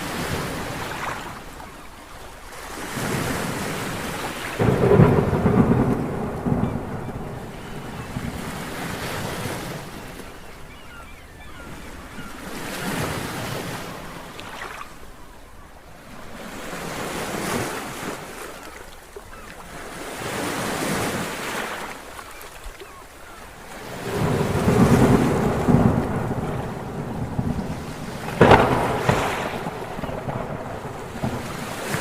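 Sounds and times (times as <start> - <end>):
sea waves surging: 0.0 - 32.0.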